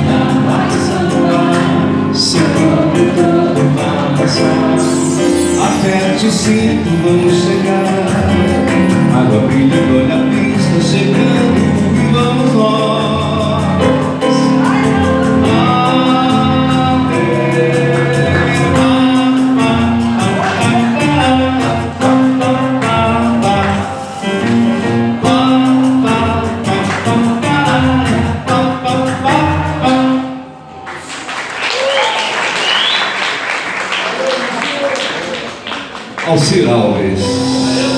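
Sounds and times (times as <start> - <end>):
man singing: 0.0 - 30.5, 36.5 - 37.9
guitar accompaniment: 0.0 - 31.5, 36.4 - 37.9.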